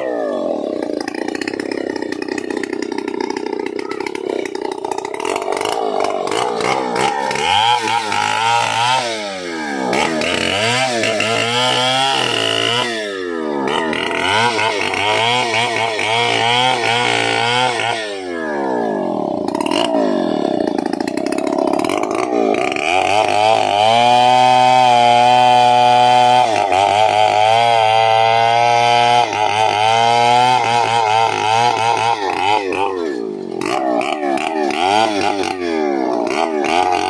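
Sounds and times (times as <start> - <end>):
chainsaw engine revving: 0.0 - 37.0.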